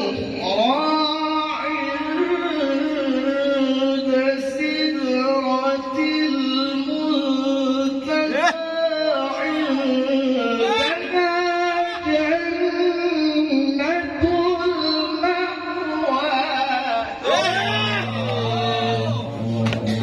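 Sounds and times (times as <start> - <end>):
man reciting melodically through microphone: 0.0 - 20.0.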